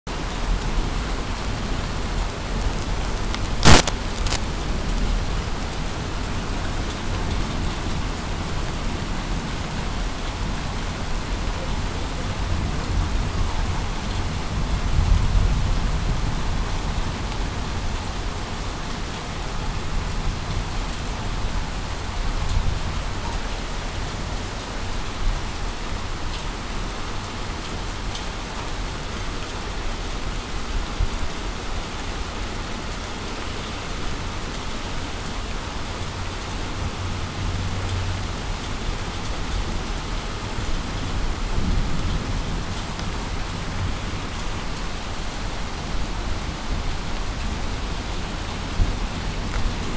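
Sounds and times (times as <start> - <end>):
rain on pavement and cars: 0.1 - 49.9.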